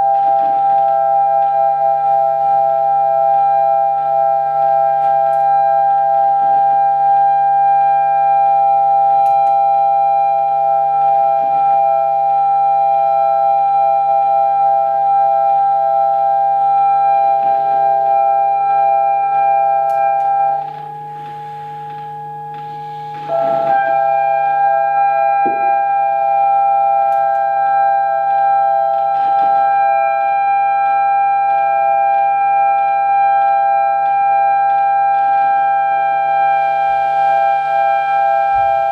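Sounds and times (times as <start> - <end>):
drone of held tones: 0.0 - 38.9.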